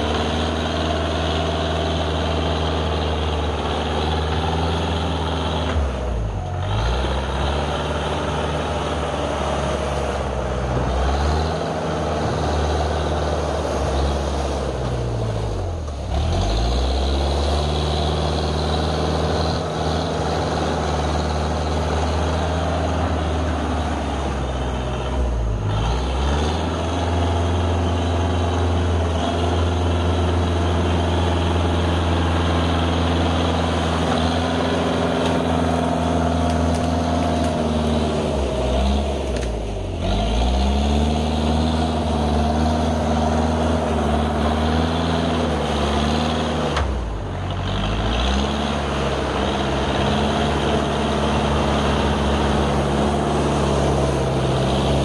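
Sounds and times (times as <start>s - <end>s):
track loader engine running: 0.0s - 55.0s.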